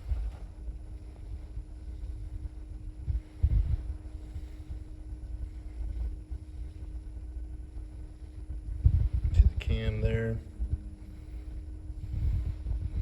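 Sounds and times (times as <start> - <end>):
microphone rumbling: 0.0 - 13.0
steady low hum: 0.0 - 13.0.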